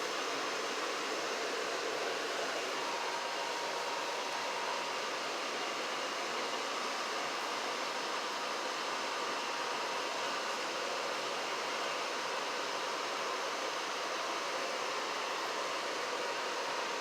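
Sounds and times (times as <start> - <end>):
faint steady whine: 0.0 - 17.0
furnace air and burner noise: 0.0 - 17.0.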